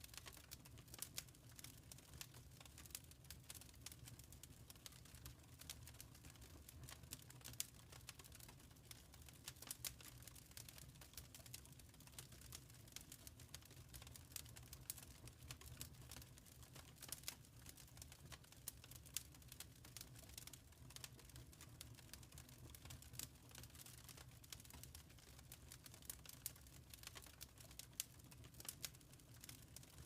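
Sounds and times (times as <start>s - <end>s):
faint wood fire crackling: 0.0s - 30.0s.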